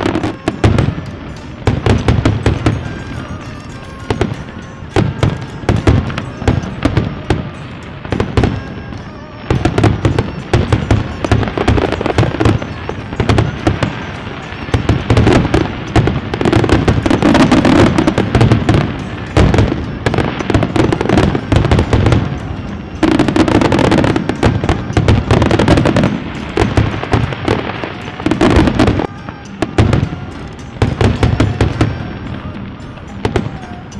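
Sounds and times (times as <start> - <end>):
fireworks crackling and popping: 0.0 - 33.9
heavy fireworks bangs: 0.0 - 33.9.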